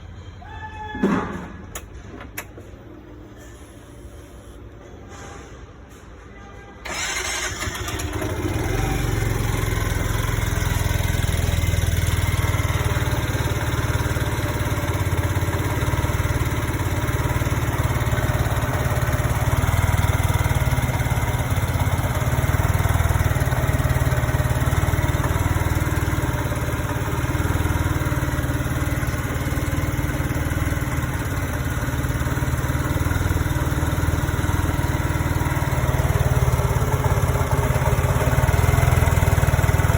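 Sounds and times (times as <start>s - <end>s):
scooter engine starting and idling: 6.8s - 39.9s.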